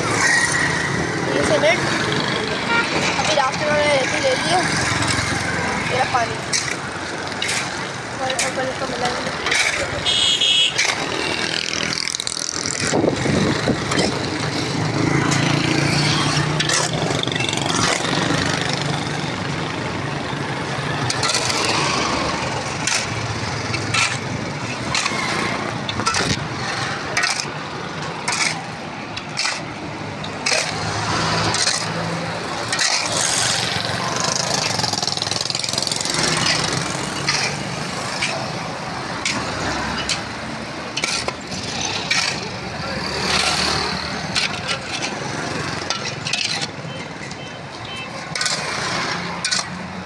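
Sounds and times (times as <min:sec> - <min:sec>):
vehicle engines running: 0:00.0 - 0:50.0
shovel scraping gravel: 0:06.0 - 0:19.4, 0:21.0 - 0:46.9, 0:48.2 - 0:49.8.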